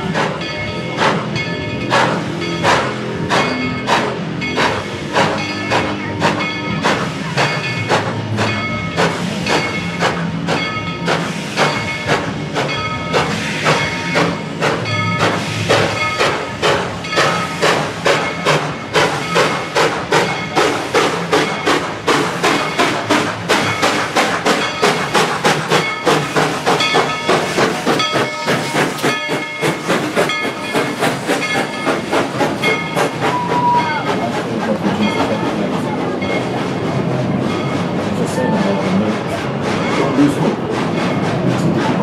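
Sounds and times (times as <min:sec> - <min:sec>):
rail cars rolling: 0:00.0 - 0:42.0
steam hissing: 0:00.0 - 0:42.0
steam locomotive chuffing: 0:00.0 - 0:42.0.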